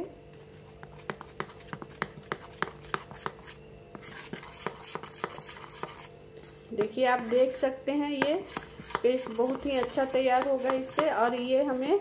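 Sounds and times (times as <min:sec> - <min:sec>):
metal spoon stirring paste in a bowl: 0:00.7 - 0:06.1, 0:06.8 - 0:12.0.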